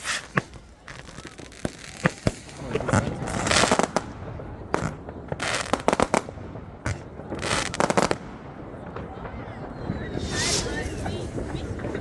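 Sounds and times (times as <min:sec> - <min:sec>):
firecrackers crackling: 0:00.0 - 0:12.0
firework bangs: 0:00.0 - 0:12.0.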